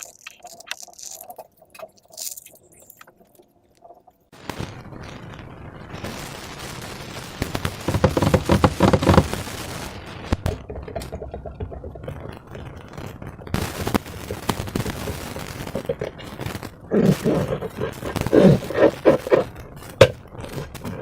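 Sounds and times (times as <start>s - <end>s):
rapid crackling pops: 0.0s - 21.0s.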